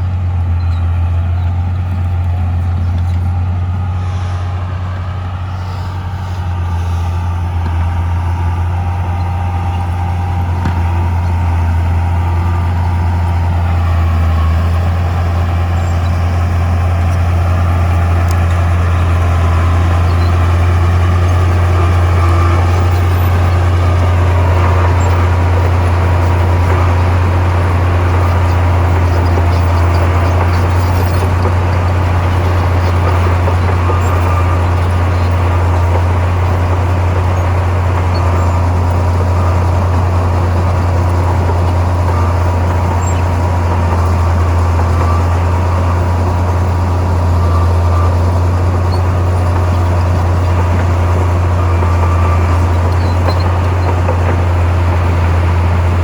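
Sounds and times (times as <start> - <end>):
heavy diesel machine engine hum: 0.0 - 56.0.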